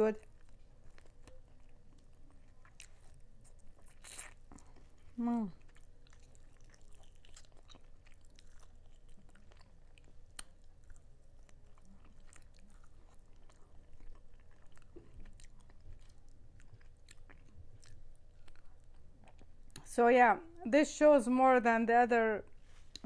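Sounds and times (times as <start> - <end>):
person chewing: 0.2 - 19.9.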